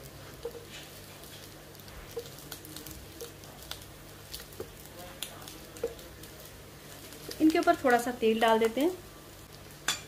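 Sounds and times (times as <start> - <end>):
bread sizzling in oil: 0.0 - 10.0
spattering oil crackling: 0.0 - 10.0.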